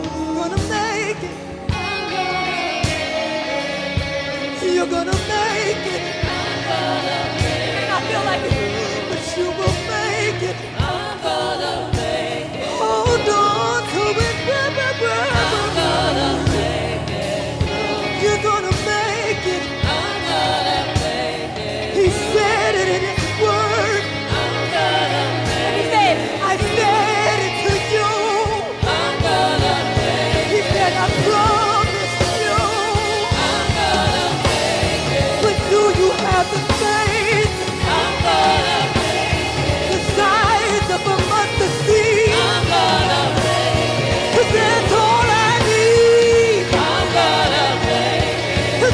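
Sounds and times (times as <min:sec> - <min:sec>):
gospel song with band: 0:00.0 - 0:48.9.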